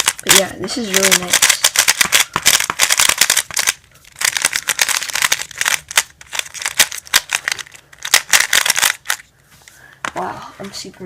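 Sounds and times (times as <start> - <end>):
speed cube turning clicks: 0.0 - 9.2.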